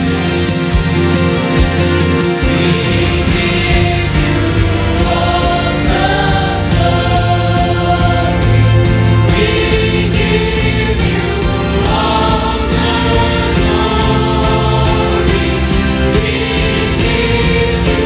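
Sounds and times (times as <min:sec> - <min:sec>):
band accompaniment with steady beat: 0:00.0 - 0:18.0
choir singing: 0:00.0 - 0:18.0.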